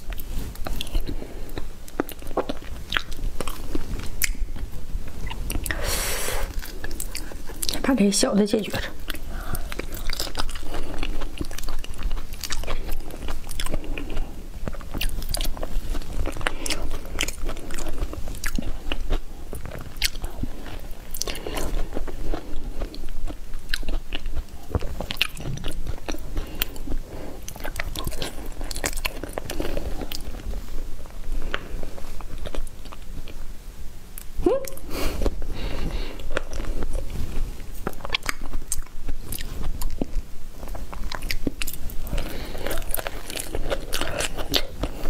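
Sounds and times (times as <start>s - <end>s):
biting and chewing: 0.0s - 5.8s, 8.7s - 33.4s, 35.2s - 45.0s.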